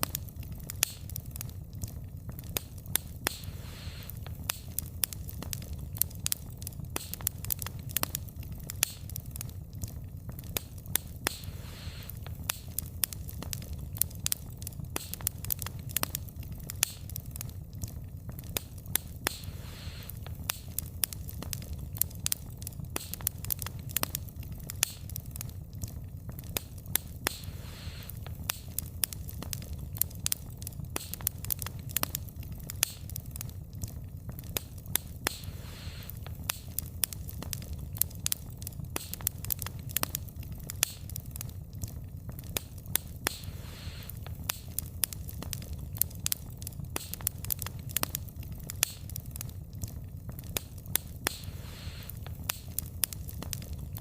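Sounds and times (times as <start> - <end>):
logs popping and crackling: 0.0 - 54.0
low rumble of flames: 0.0 - 54.0.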